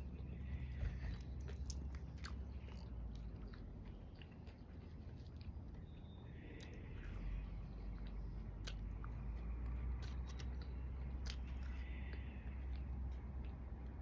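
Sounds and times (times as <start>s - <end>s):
chewing mouth clicks and smacks: 0.0s - 14.0s
low outdoor rumble: 0.0s - 14.0s.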